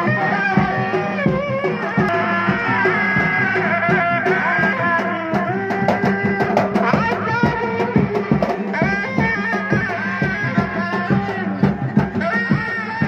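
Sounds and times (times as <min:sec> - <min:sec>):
fast dense drumming: 0:00.0 - 0:13.0.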